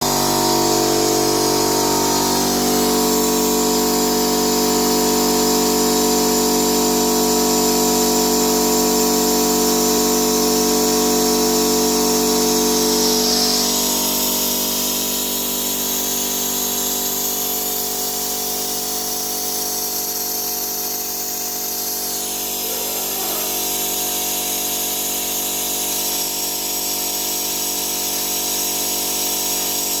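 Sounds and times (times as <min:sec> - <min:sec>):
electric oil pump running: 0:00.0 - 0:30.0.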